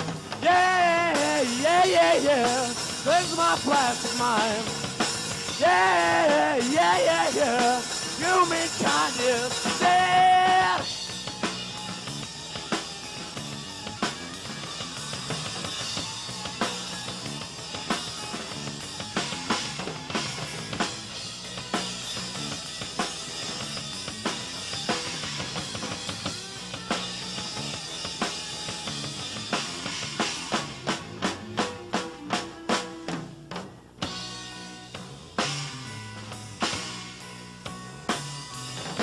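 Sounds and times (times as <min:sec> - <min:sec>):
drum kit: 0:00.0 - 0:39.0
electric guitar: 0:00.0 - 0:39.0.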